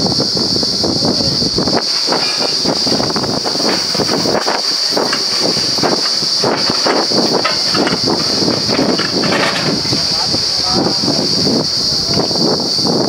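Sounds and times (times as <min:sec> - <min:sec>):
drilling rig hissing: 0:00.0 - 0:13.0
mechanical clatter: 0:01.4 - 0:12.6.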